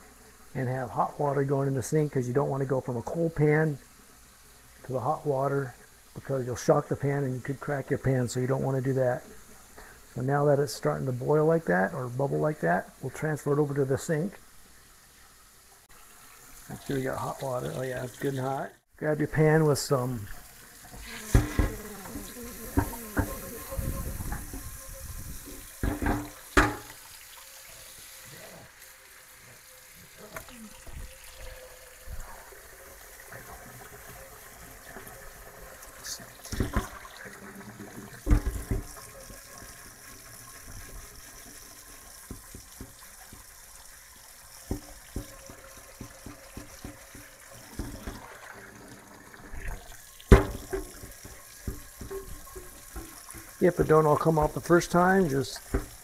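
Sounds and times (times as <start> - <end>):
tap water running into skillet: 0.0 - 18.8, 19.4 - 56.0.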